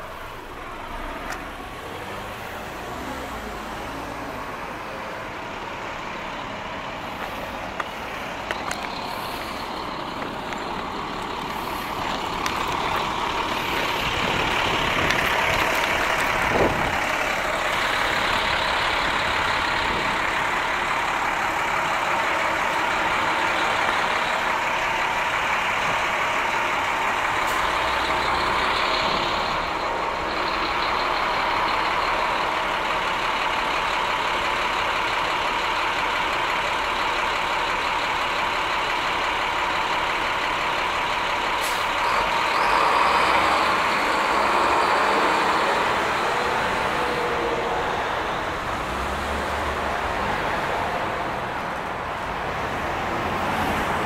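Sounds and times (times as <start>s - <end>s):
street traffic hiss: 0.0s - 54.0s.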